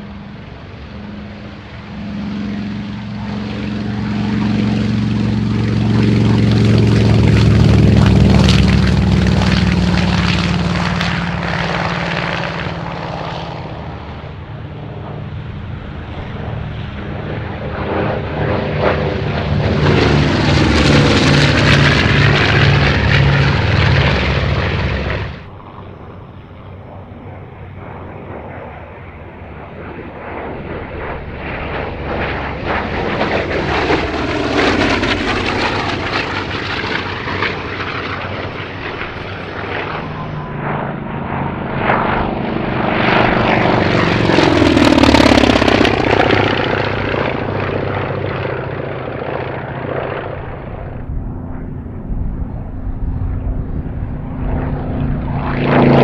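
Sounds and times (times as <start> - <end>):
propeller plane engine at full power: 0.0 - 56.0
propeller plane passing overhead: 0.0 - 56.0.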